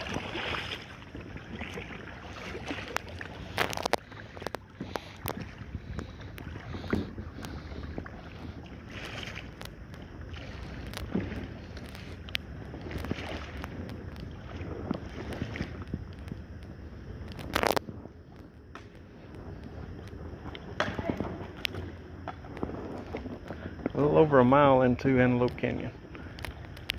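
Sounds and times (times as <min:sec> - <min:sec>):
paddle splashes and drips: 0:00.0 - 0:16.4, 0:18.7 - 0:24.0, 0:26.1 - 0:26.9
water lapping at hull: 0:00.0 - 0:26.9
wind rumble on microphone: 0:00.0 - 0:26.9.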